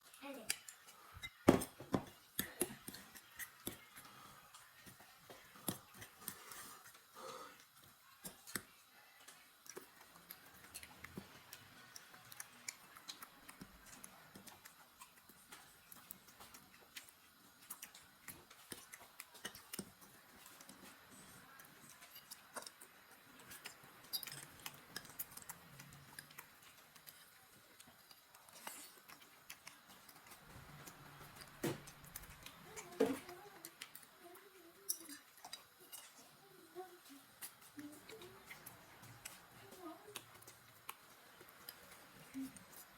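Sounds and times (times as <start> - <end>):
eating spaghetti: 0.0 - 42.9.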